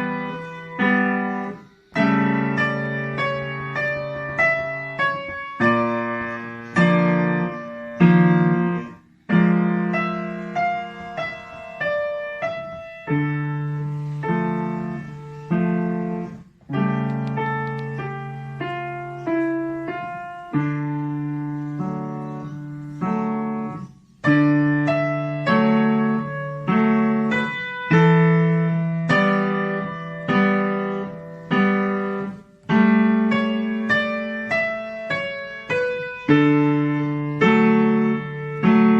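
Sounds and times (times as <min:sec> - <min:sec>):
slow piano melody: 0:00.0 - 0:38.9.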